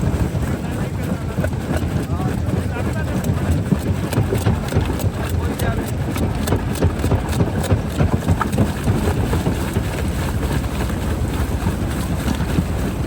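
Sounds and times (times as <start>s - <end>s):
rock crusher rumbling: 0.0s - 13.0s.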